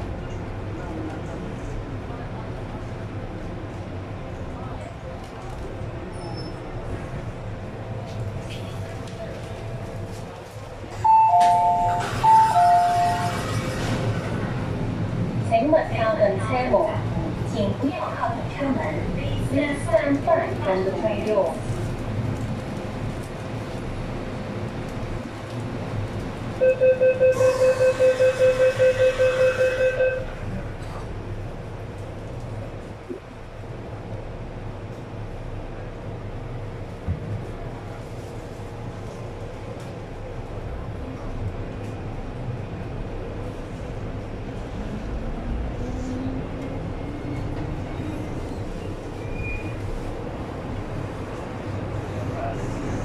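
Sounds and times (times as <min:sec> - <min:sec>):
train low hum: 0:00.0 - 0:53.0.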